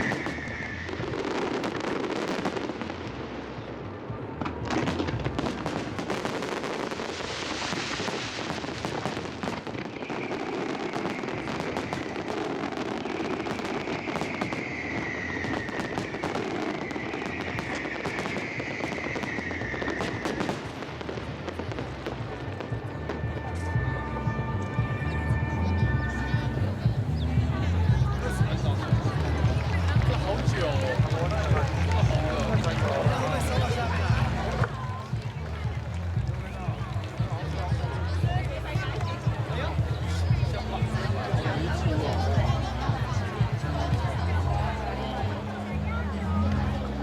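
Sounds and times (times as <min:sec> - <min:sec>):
fireworks banging and crackling: 0:00.0 - 0:47.0.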